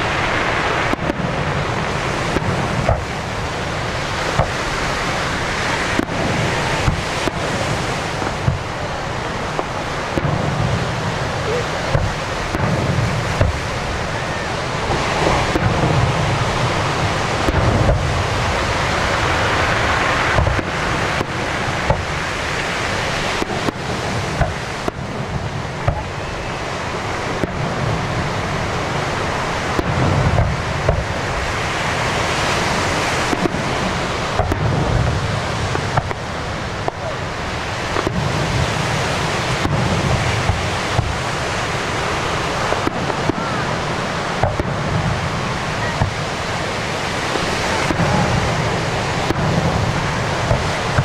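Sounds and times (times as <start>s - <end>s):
fireworks crackling: 0.0s - 51.0s
low booms: 0.0s - 51.0s.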